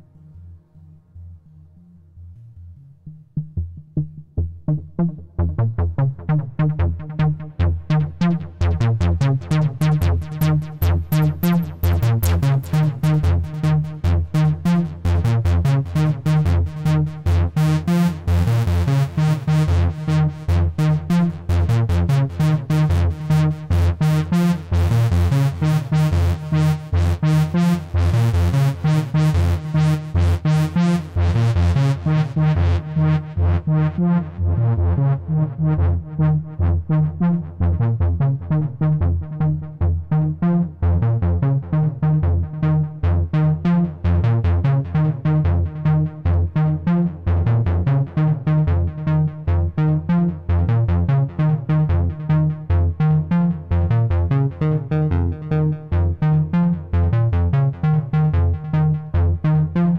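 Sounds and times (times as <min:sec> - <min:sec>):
synthesizer bass sequence: 0:00.0 - 0:59.9.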